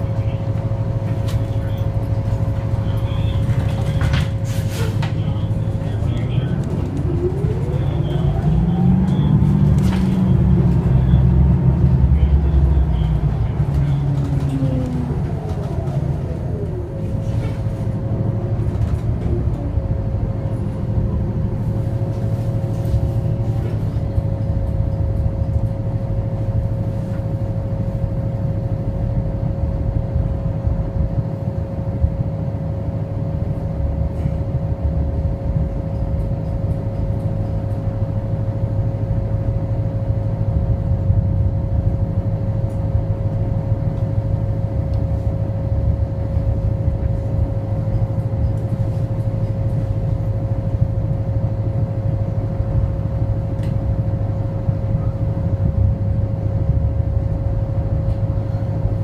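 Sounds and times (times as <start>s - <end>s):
bus cabin drone: 0.0s - 59.0s
steady whine: 0.0s - 59.0s.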